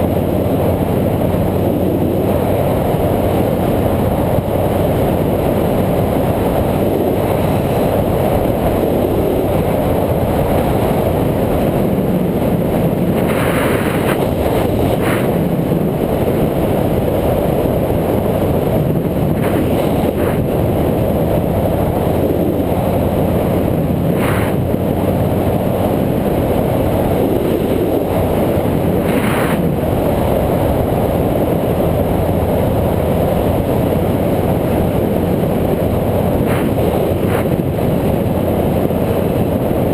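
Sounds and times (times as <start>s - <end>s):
wind and riding noise: 0.0s - 39.9s.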